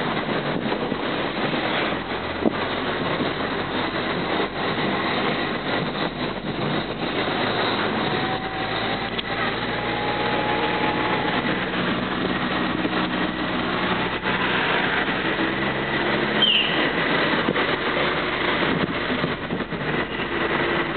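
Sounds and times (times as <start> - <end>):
car engine hum: 0.0 - 20.9
road noise hiss: 0.0 - 20.9.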